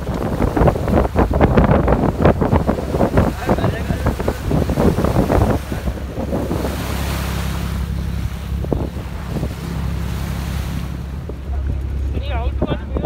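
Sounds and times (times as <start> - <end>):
boat engine droning: 0.0 - 13.0
water rushing past boat: 0.0 - 13.0
wind buffeting microphone: 0.0 - 13.0.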